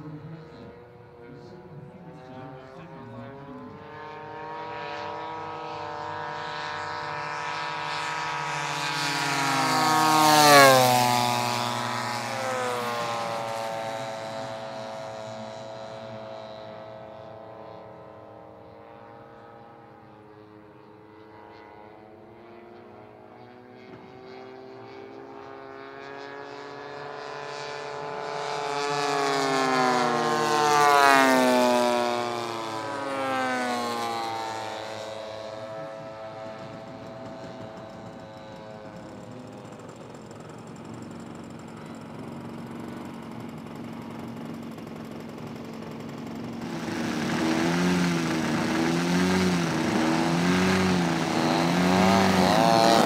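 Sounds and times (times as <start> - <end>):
model airplane engine flying past: 0.0 - 53.0.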